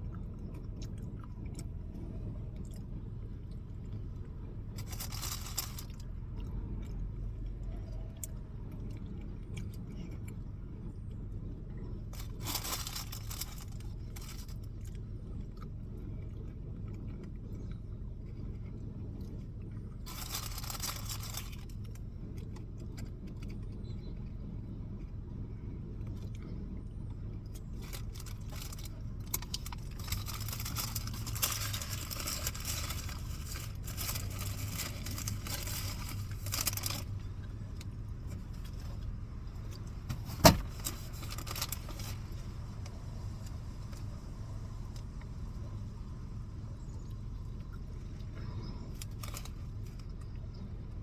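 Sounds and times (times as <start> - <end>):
low hum: 0.0 - 51.0.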